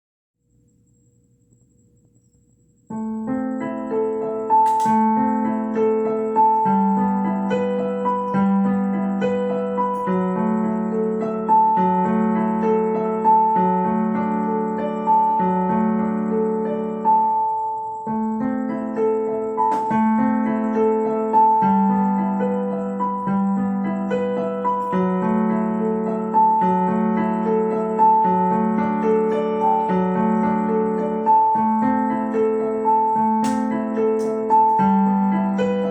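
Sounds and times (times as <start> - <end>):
solo piano playing calm piece: 2.9 - 35.9.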